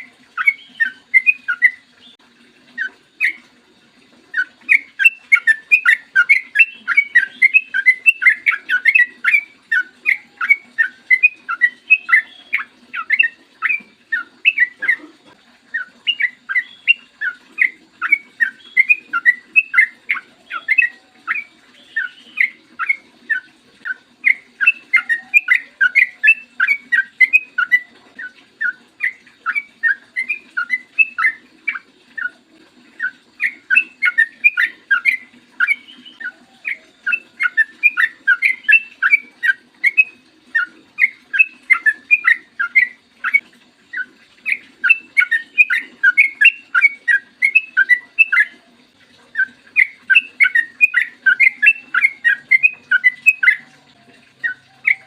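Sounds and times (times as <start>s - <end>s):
bird singing bubbly notes: 0.0s - 55.0s.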